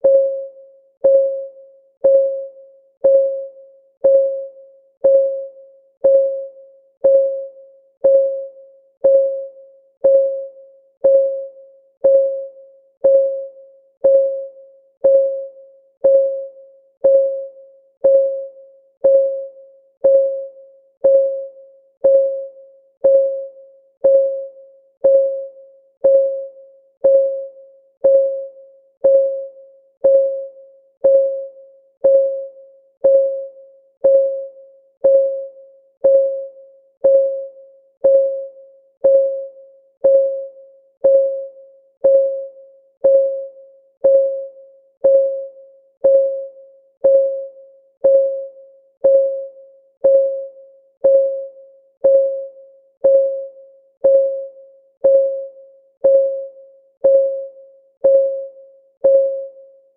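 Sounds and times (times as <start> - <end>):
clock ticking with ringing tone: 0.0 - 59.9.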